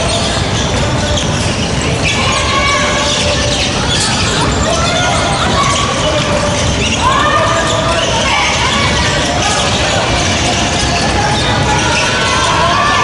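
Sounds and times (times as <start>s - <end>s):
crowd hum: 0.0s - 13.0s
players calling out: 0.0s - 13.0s.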